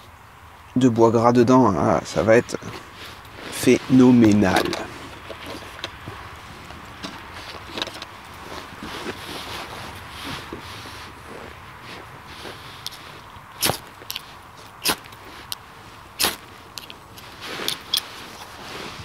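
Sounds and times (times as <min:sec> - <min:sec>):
striker scraping fire steel: 0:02.6 - 0:19.0.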